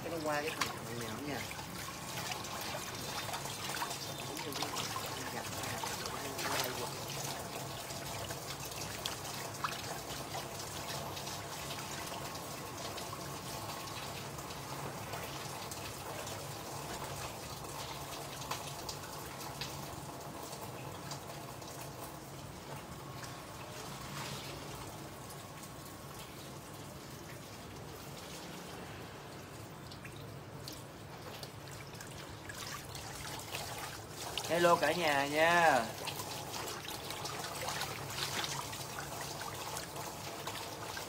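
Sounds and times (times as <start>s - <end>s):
water trickling and dripping: 0.0s - 41.0s.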